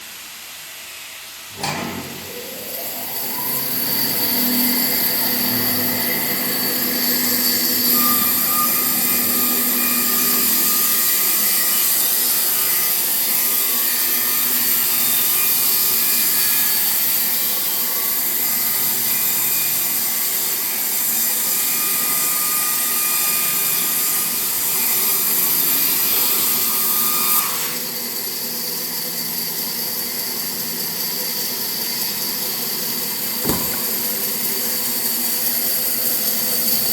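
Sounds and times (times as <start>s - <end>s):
sawmill machine sawing wood: 2.2s - 28.0s, 31.9s - 36.9s.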